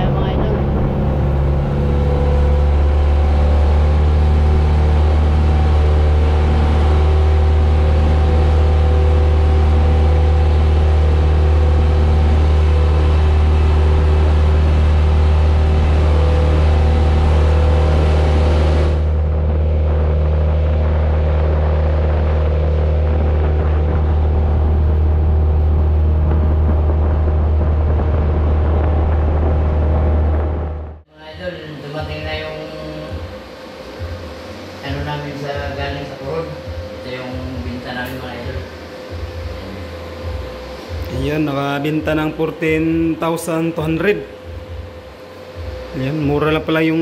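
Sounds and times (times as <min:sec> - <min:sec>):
boat engine droning: 0:00.0 - 0:47.0.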